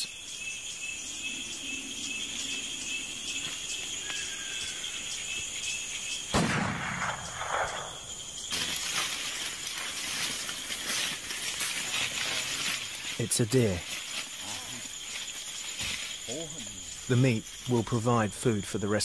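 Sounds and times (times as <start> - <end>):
insects calling: 0.0 - 19.0.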